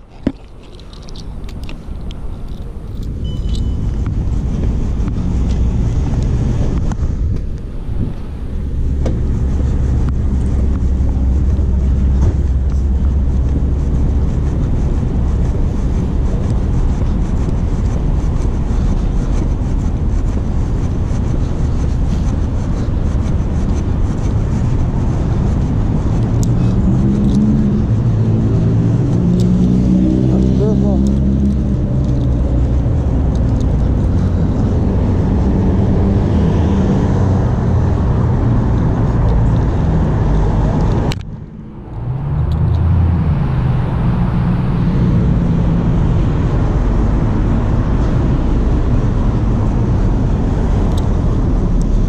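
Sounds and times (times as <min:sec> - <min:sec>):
street traffic: 0:00.0 - 0:52.0
wind rumble on microphone: 0:00.0 - 0:52.0
vehicle engine accelerating: 0:02.5 - 0:52.0.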